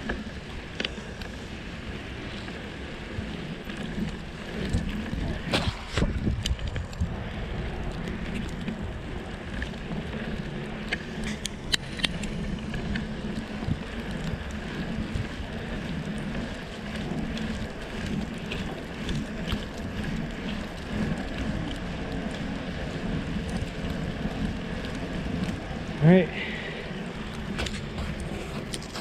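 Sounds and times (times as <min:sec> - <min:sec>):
bicycle tyres rolling on snow: 0:00.0 - 0:29.0
bike clicking: 0:00.0 - 0:29.0
wind buffeting microphone: 0:00.0 - 0:29.0.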